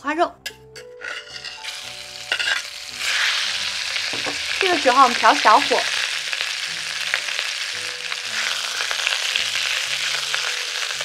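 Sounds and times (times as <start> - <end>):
pork sizzling in oil: 1.0 - 11.0.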